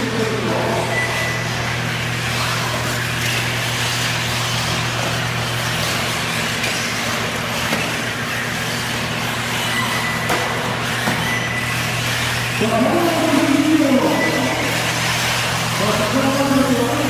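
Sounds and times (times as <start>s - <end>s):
rc buggies running: 2.3s - 17.0s.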